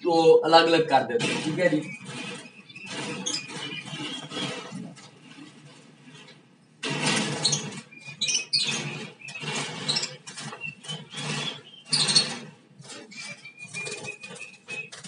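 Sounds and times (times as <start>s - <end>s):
birds wings flapping in a cage: 1.2s - 5.8s, 6.8s - 15.0s.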